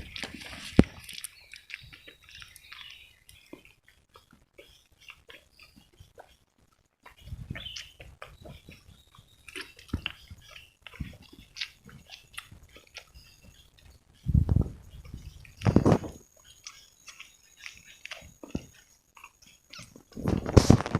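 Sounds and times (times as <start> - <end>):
chewing and crunching: 0.0 - 20.9.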